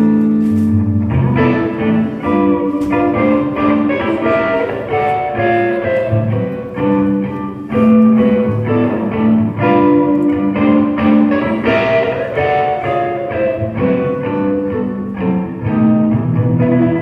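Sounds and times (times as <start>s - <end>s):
electric guitar: 0.0s - 17.0s.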